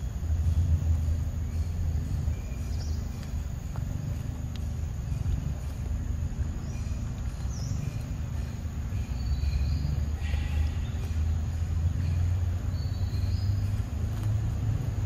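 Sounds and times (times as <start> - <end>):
faint bird chirps: 0.0 - 13.9
low outdoor rumble: 0.0 - 15.0.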